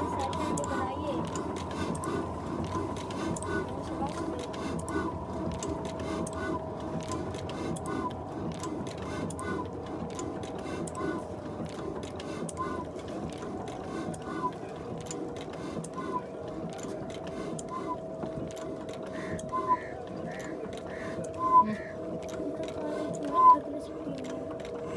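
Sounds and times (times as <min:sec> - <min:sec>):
diesel engine clattering: 0:00.0 - 0:24.9.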